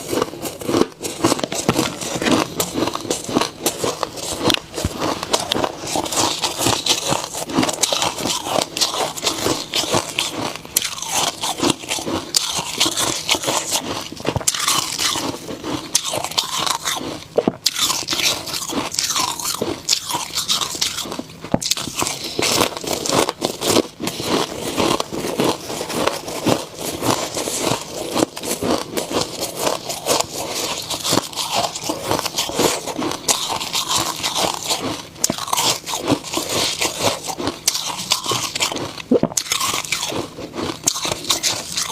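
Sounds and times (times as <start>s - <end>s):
chewing ice crunching: 0.0s - 41.9s.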